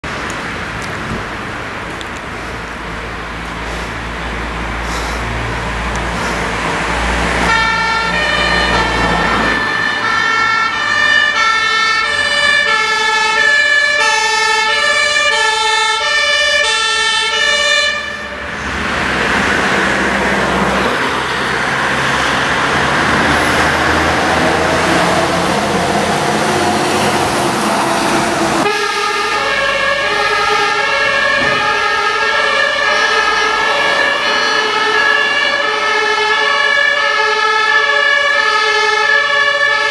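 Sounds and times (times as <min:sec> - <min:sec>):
truck passing with rushing noise: 0:00.0 - 0:39.9
fire engine two-tone siren: 0:06.6 - 0:39.9.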